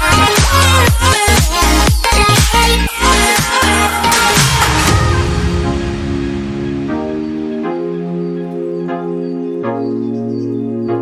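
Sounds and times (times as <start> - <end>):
electronic dance music: 0.0 - 9.3.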